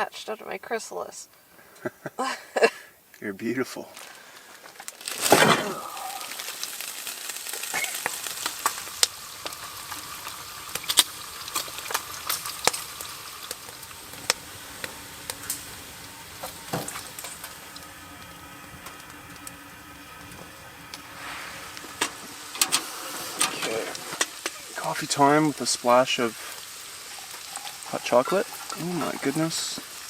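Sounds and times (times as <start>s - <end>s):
sharp pops and crackles: 3.1s - 30.0s
food sizzling in a pan: 3.5s - 30.0s.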